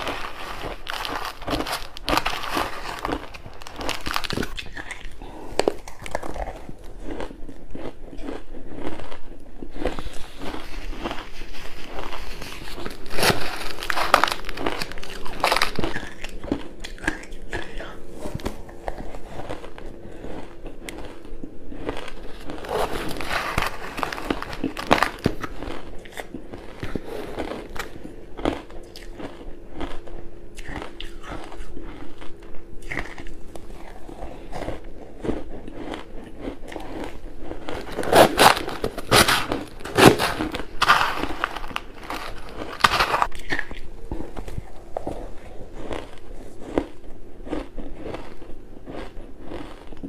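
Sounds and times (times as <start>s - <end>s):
chewing crunchy ice: 0.0s - 50.0s.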